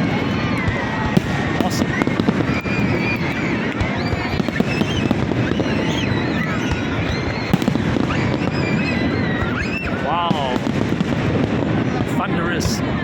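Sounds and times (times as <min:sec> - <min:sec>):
fireworks bursts and crackling pops: 0:00.0 - 0:13.0.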